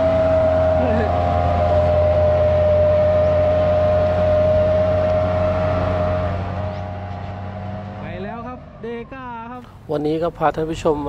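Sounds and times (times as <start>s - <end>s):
diesel truck engine pulling uphill: 0.0s - 11.0s.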